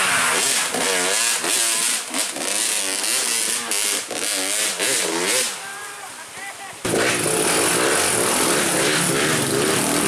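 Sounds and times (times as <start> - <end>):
motorcycle engine revving: 0.0 - 5.6, 6.9 - 10.0.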